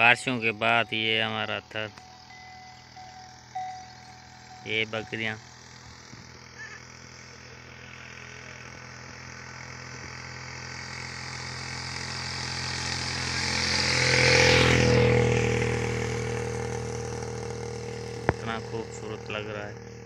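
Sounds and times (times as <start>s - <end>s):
vehicle engine passing: 0.0s - 20.0s.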